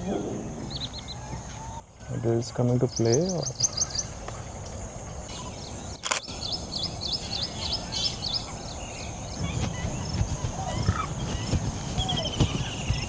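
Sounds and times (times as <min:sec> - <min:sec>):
small bird calling: 0:00.0 - 0:13.0.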